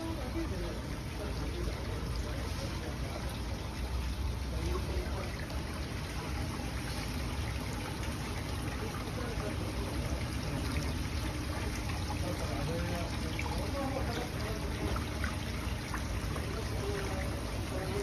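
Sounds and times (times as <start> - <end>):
fountains trickling and splashing: 0.0 - 18.0.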